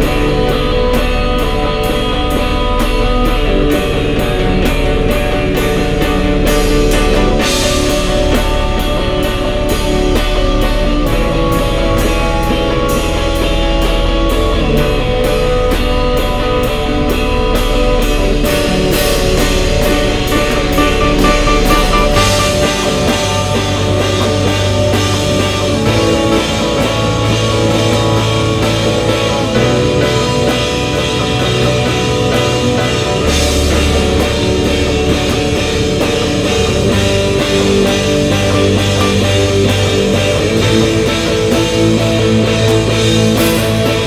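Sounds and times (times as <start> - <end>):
drum kit with cymbals: 0.0 - 44.0
electric guitar: 0.0 - 44.0.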